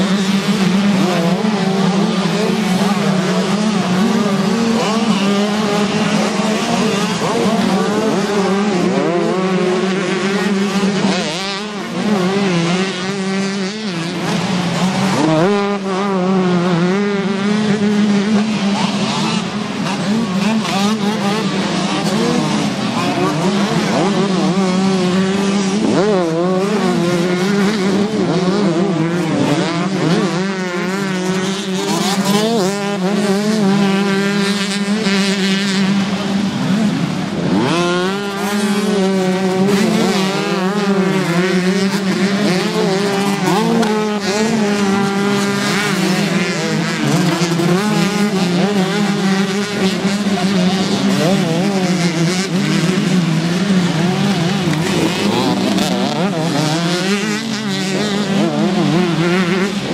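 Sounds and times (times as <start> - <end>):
motocross bikes revving: 0.0 - 59.9.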